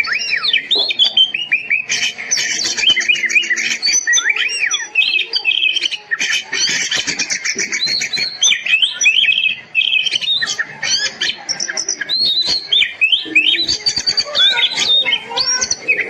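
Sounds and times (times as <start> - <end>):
magpie-robin singing: 0.0 - 16.0.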